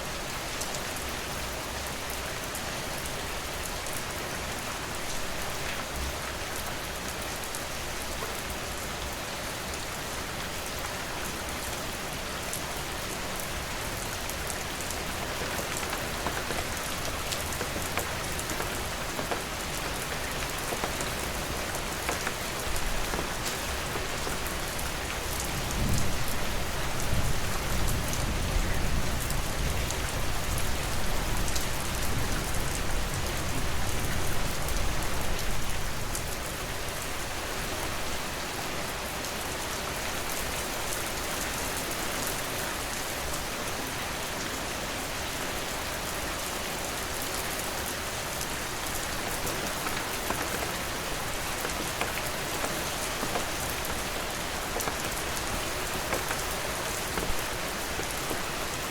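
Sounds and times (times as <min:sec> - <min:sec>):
rain pattering on surfaces: 0:00.0 - 0:58.9.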